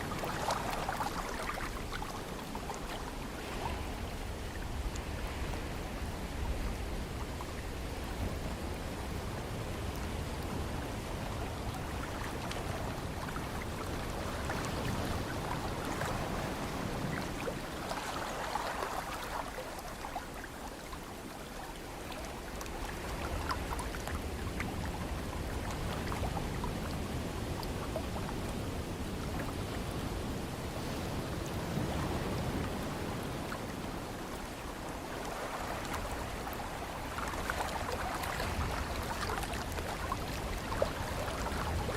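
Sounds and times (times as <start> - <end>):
water crackle: 0.0 - 41.9.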